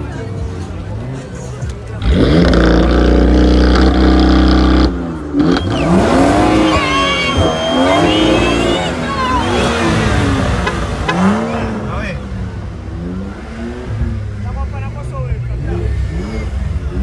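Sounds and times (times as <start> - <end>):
car engine revving: 0.6 - 17.0.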